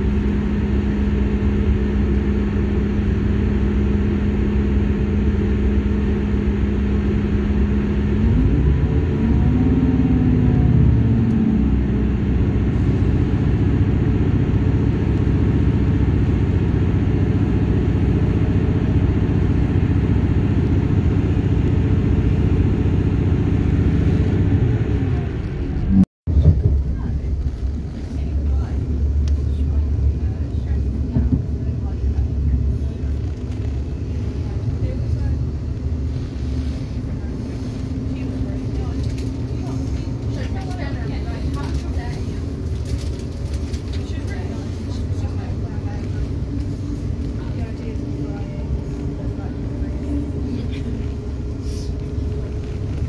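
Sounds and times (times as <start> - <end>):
diesel train engine drone: 0.0 - 53.0
wheel and track rumble: 0.0 - 53.0.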